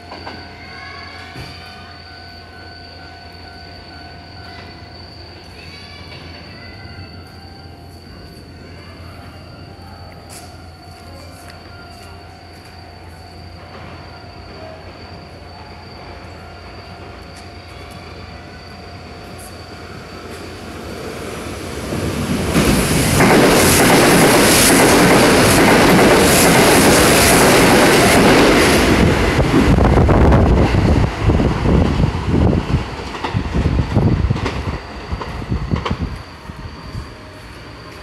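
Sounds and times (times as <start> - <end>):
train passing platform: 0.0 - 38.0.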